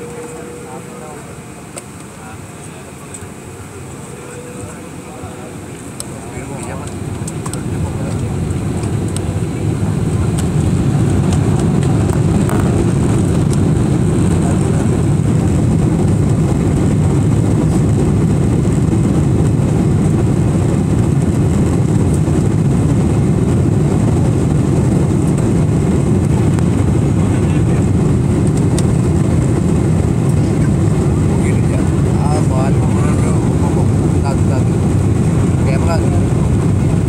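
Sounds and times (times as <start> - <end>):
jet engines from inside cabin: 0.0 - 37.0.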